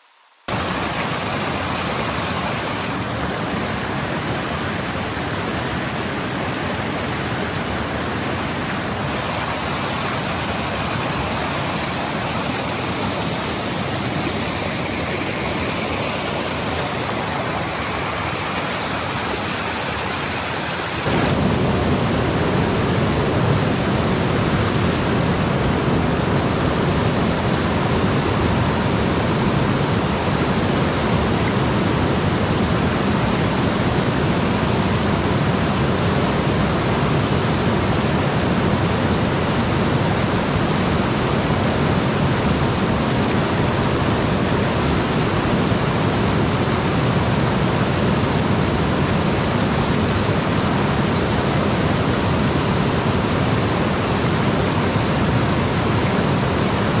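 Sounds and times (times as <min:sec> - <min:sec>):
creek rushing over stones: 0:00.5 - 0:57.0.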